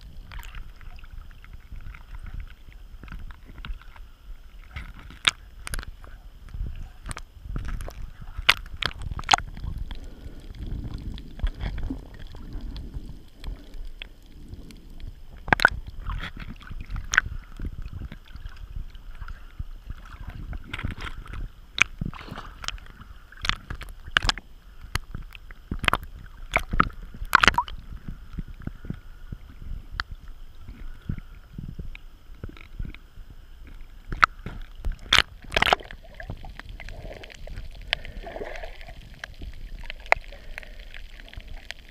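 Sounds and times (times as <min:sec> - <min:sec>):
water sloshing and gurgling: 0:00.0 - 0:41.9
waves slapping camera: 0:00.0 - 0:41.9.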